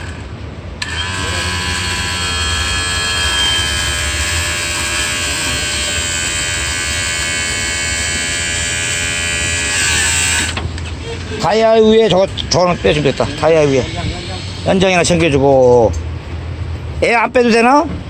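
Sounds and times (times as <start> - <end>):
electric pump motor buzzing: 0.0 - 14.8.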